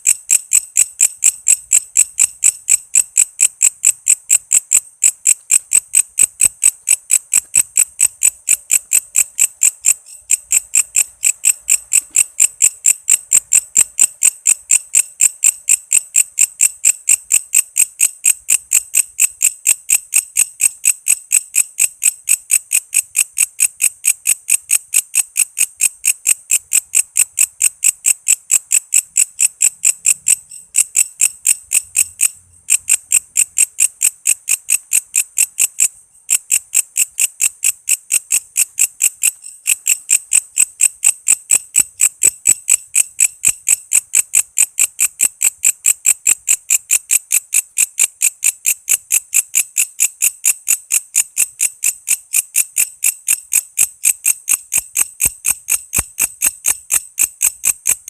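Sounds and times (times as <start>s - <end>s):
insect chirping: 0.0s - 58.0s.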